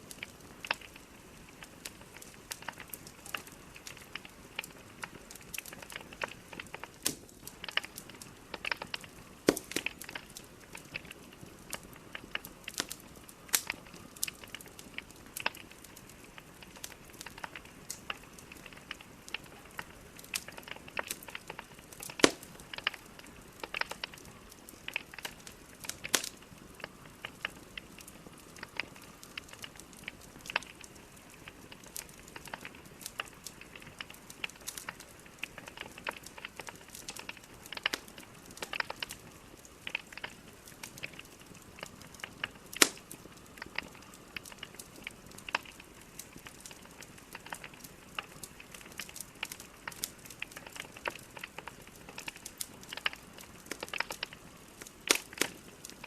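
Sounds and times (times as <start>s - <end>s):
logs crackling in a fireplace: 0.0s - 56.0s.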